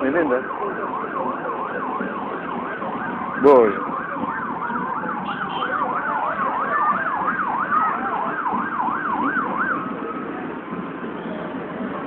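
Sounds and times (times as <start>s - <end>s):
siren wailing: 0.0s - 10.3s
street noise hubbub: 0.0s - 12.0s
siren yelping: 0.2s - 10.3s.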